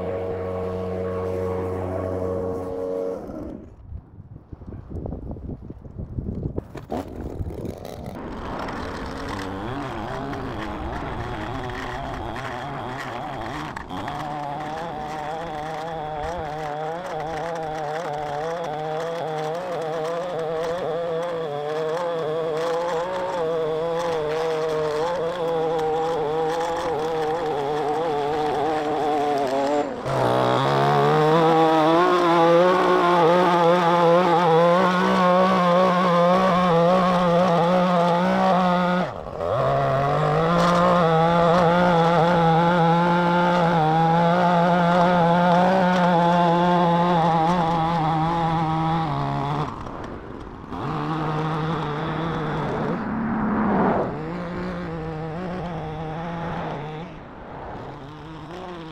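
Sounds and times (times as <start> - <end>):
blade cutting sidewalk edge: 0.0 - 3.8, 5.7 - 58.9
edger engine at high throttle: 0.0 - 3.9, 6.6 - 58.9.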